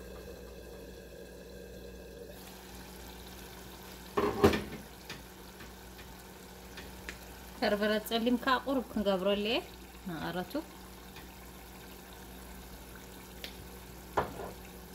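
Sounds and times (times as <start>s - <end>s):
sauce bubbling in saucepan: 0.0s - 14.9s.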